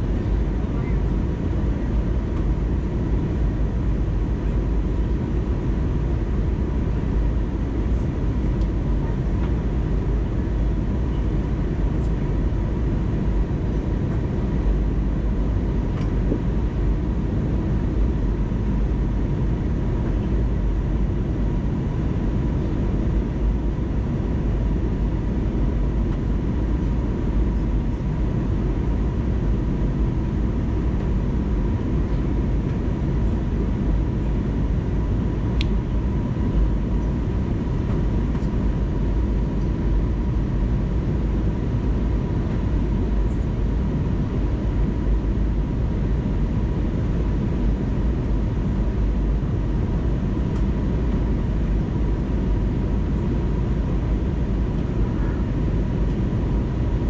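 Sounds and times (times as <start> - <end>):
airplane cabin engine rumble: 0.0 - 57.0
thin steady whine: 0.0 - 57.0.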